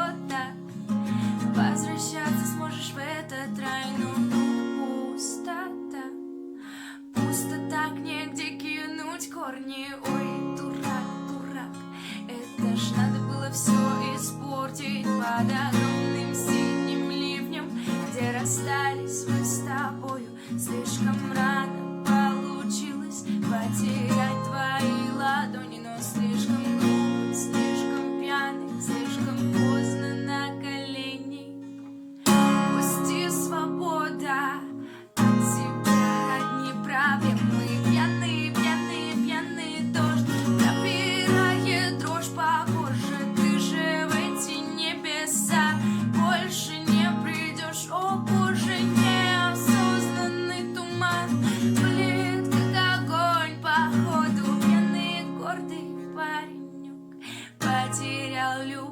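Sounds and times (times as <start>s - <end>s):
acoustic guitar strummed and picked: 0.0s - 58.9s.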